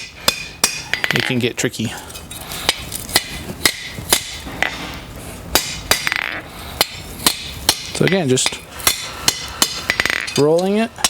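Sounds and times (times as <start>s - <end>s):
hammer striking steel on anvil: 0.0s - 1.3s, 2.7s - 11.0s.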